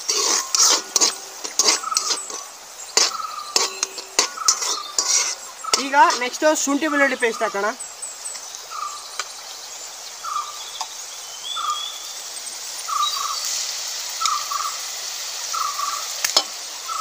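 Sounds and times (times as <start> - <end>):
onions sizzling in a wok: 0.0 - 17.0.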